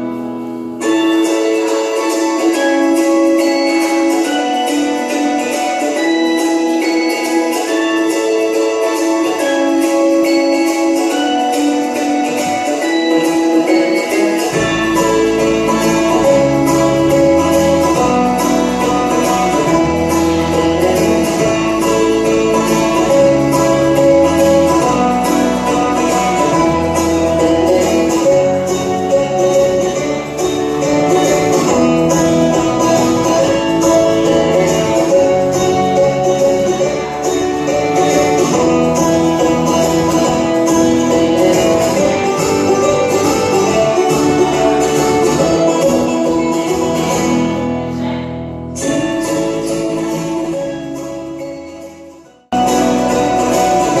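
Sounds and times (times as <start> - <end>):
music with guitar and fiddle: 0.0 - 54.0.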